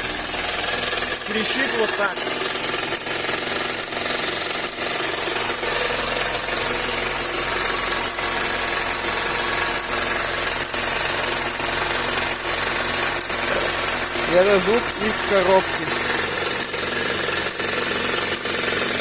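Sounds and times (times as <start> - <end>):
car engine running: 0.0 - 19.0
crackling rattle from transmission: 0.0 - 19.0.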